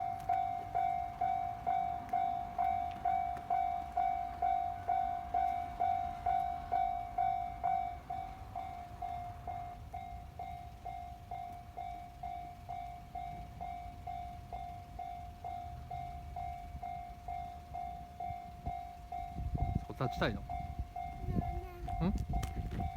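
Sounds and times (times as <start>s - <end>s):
level crossing warning bell: 0.0s - 22.9s.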